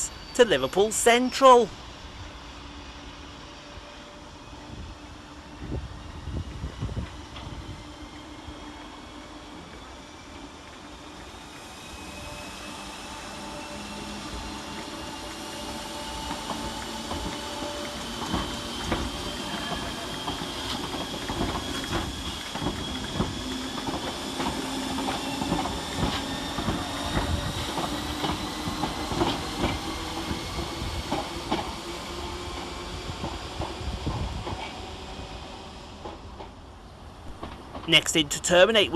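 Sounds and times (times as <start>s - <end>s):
train rumble: 0.0s - 38.9s
electric train motor whine: 1.8s - 36.3s.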